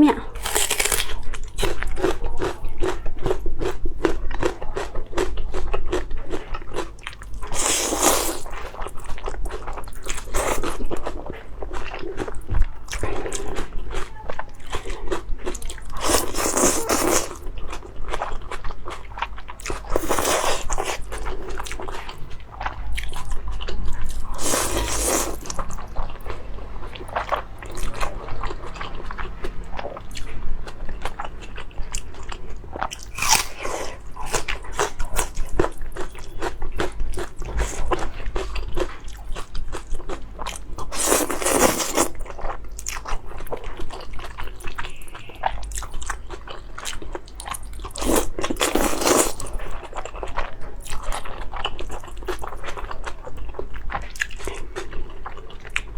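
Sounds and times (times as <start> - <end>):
person crunching and chewing food: 0.0 - 55.9.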